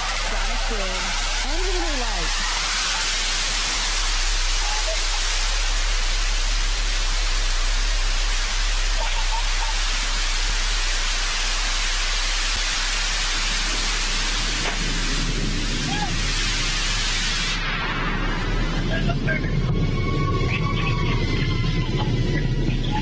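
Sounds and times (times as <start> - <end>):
rocket engine firing: 0.0 - 22.8.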